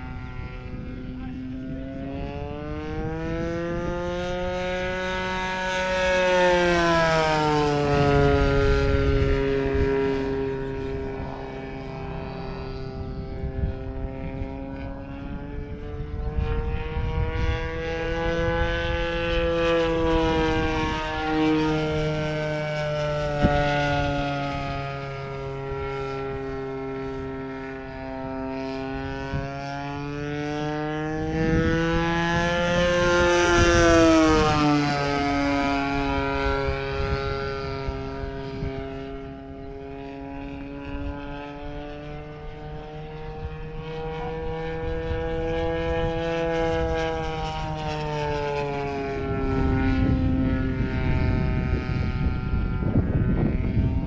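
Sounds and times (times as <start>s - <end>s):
model airplane engine droning: 0.0s - 54.0s.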